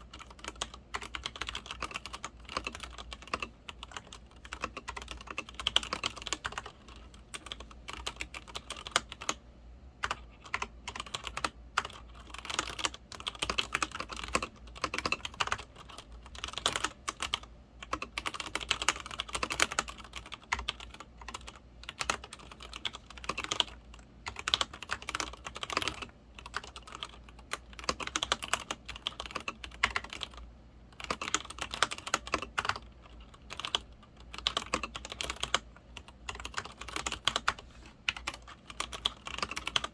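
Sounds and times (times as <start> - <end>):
mechanical keyboard typing: 0.0 - 9.4, 10.0 - 39.9.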